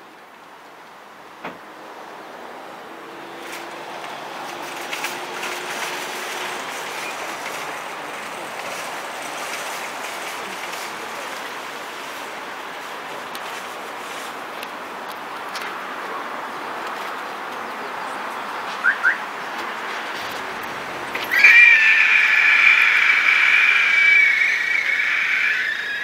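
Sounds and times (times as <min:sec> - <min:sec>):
traffic hiss: 0:00.1 - 0:26.0.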